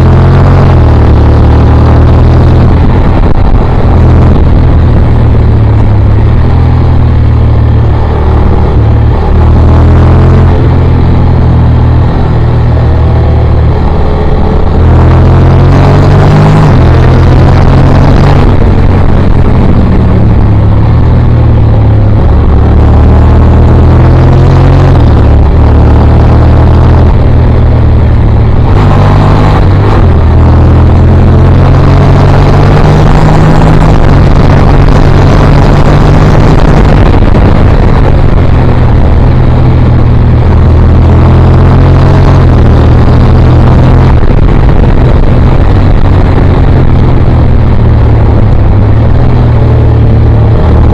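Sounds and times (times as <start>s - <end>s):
motorcycle engine revving: 0.0s - 50.9s
wind noise: 0.0s - 50.9s.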